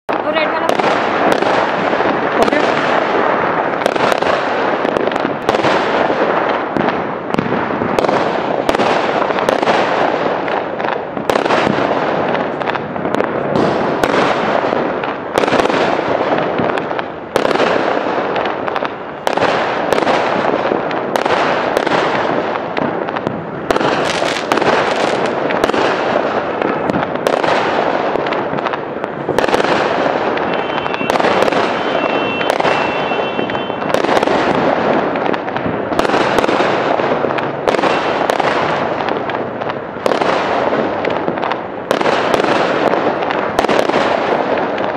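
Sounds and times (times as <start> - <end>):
fireworks crackling: 0.0 - 44.9
fireworks sharp bangs: 0.0 - 44.9.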